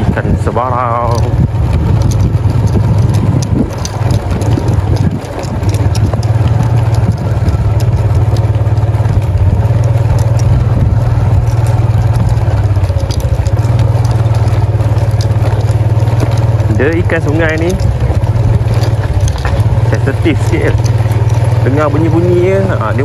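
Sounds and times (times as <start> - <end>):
motorcycle engine running: 0.0 - 23.0
stones rattling under tyres: 0.0 - 23.0.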